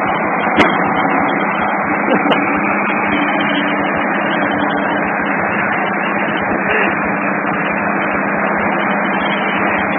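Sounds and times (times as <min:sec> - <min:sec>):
bulldozer engine running: 0:00.0 - 0:09.9.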